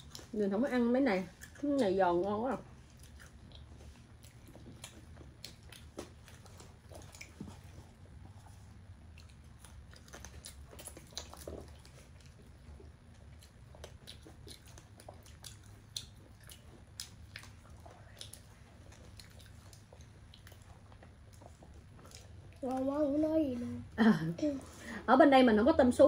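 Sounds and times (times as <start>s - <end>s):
chewing crispy chicken: 0.0s - 23.2s
low steady hum: 0.0s - 26.0s.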